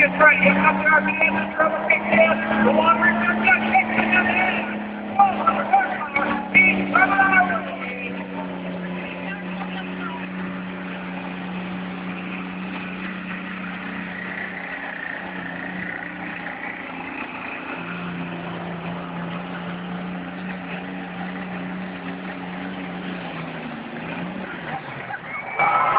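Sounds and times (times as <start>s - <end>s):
tractor diesel engine running hard: 0.0s - 25.9s.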